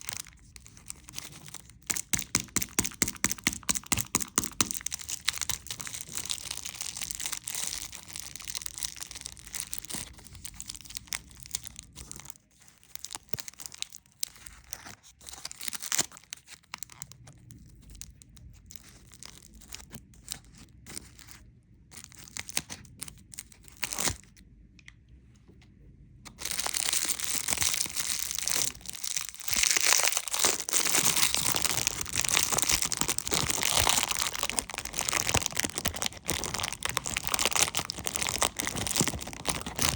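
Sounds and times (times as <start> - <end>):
candy wrappers crinkling: 0.0 - 24.4, 26.3 - 39.9.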